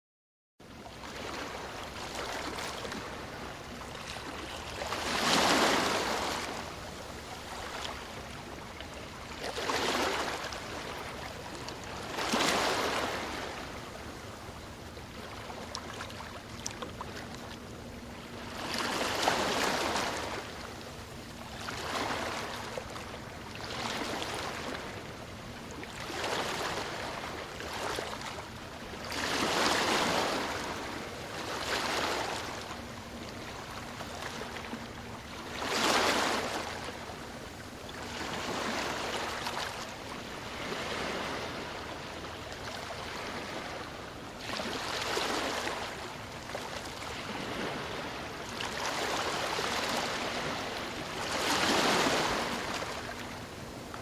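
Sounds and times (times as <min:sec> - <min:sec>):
ocean waves breaking: 0:00.9 - 0:54.0.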